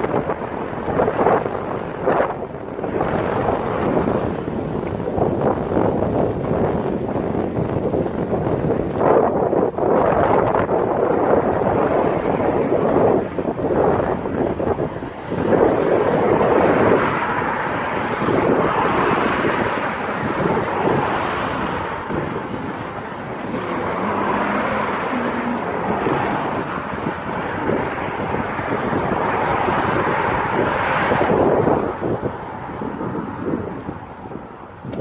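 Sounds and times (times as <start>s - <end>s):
road traffic noise: 0.0s - 35.0s
wind rushing over microphone: 0.0s - 35.0s.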